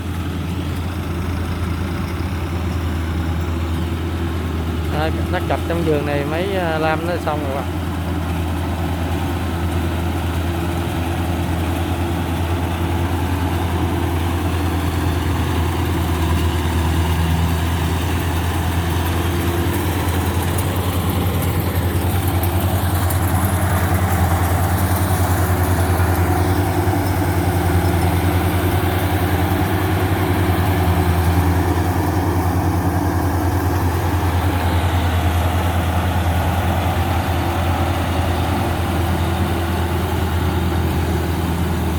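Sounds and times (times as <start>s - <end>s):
combine harvester engine hum: 0.0s - 41.9s.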